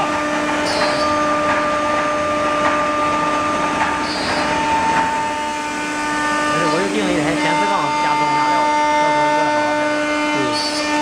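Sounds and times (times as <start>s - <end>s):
router machine whine: 0.0s - 11.0s.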